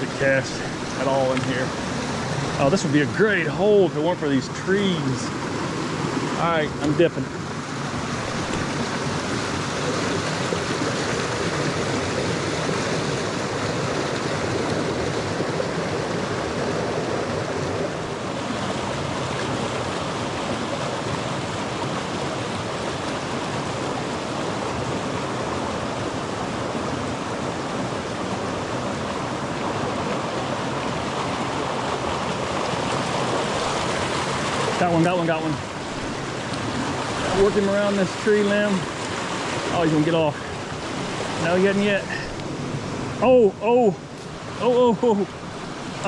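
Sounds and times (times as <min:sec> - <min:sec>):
stream rushing over rocks: 0:00.0 - 0:46.0.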